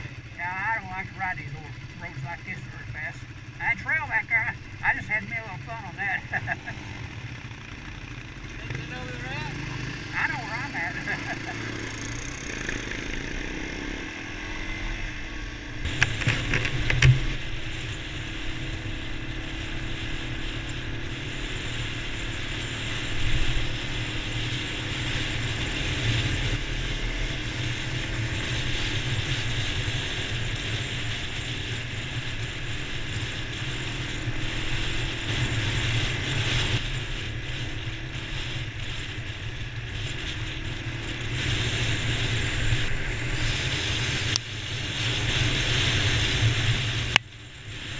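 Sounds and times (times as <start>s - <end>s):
motorcycle engine: 0.0s - 47.9s
rattling gravel road noise: 0.0s - 47.9s.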